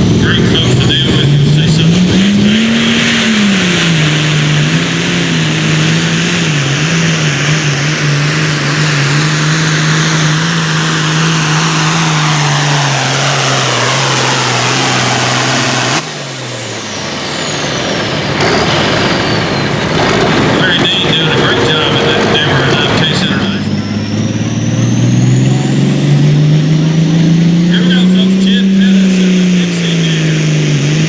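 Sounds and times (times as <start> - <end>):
engine running at full throttle: 0.0 - 31.0.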